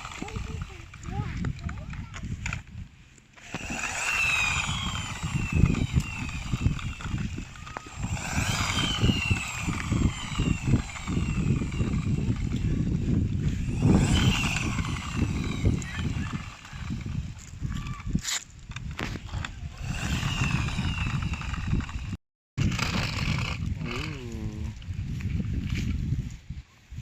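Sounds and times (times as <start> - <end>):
rc car motor whining: 0.0 - 2.6, 3.4 - 24.1
rough rumble and crackle: 0.0 - 26.4.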